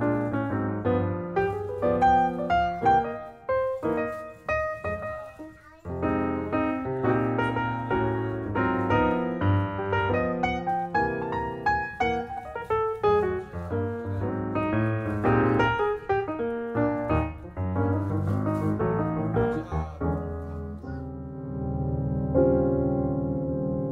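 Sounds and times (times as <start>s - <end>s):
piano music: 0.0s - 23.9s.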